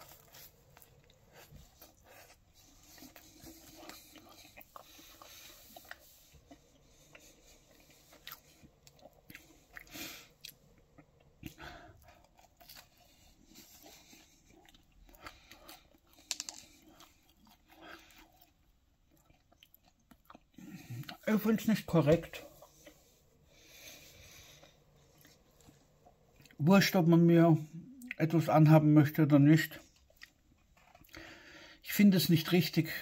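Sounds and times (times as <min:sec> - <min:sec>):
person chewing pizza: 0:00.0 - 0:26.6, 0:29.8 - 0:31.8.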